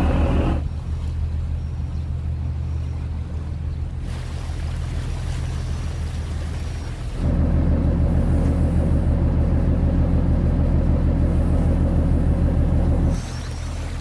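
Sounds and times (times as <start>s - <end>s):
boat diesel engine droning: 0.0s - 14.0s.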